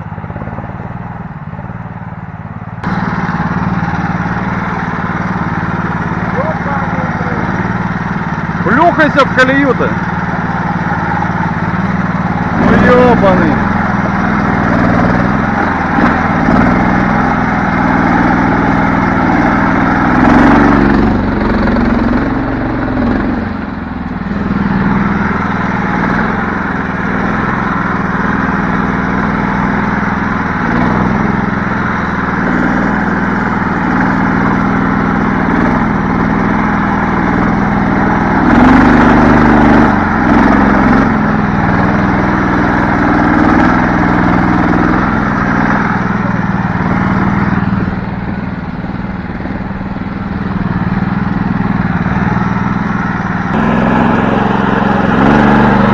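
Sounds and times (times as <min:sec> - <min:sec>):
vehicle engine revving under load: 0:00.0 - 0:55.9.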